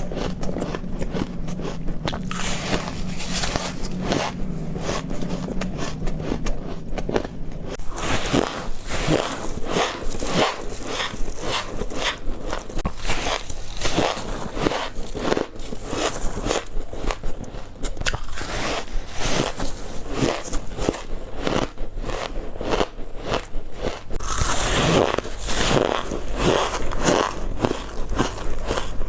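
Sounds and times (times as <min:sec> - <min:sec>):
crunching bites of ice: 0:00.0 - 0:29.0.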